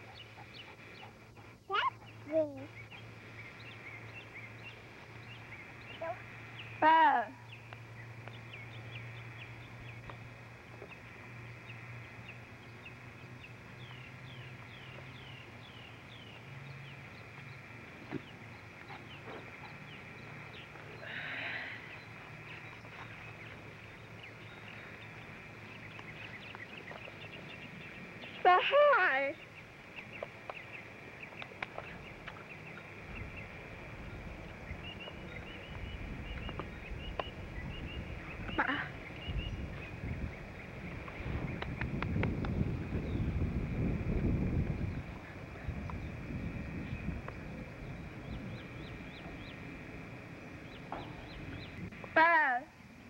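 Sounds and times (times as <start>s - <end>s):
birds chirping: 0.0s - 53.0s
low rumbling noise: 0.0s - 53.0s.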